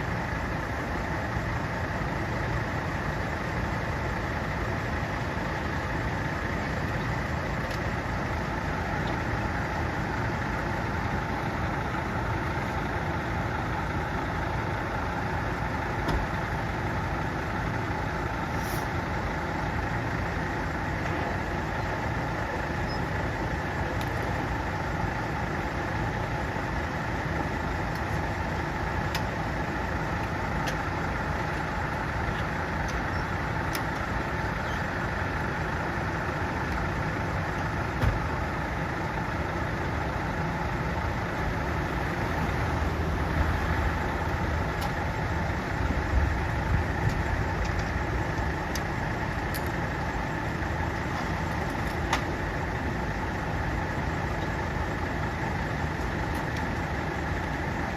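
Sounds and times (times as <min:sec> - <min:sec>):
truck engine idling: 0:00.0 - 0:57.9.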